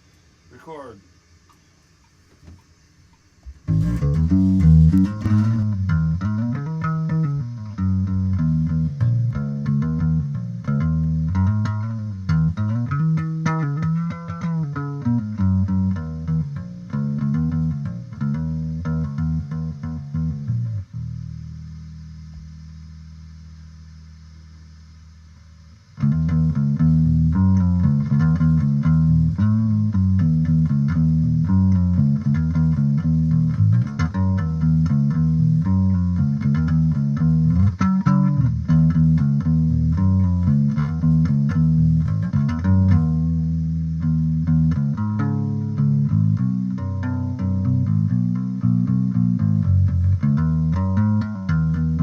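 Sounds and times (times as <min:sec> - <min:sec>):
electric bass guitar: 0:03.3 - 0:52.0.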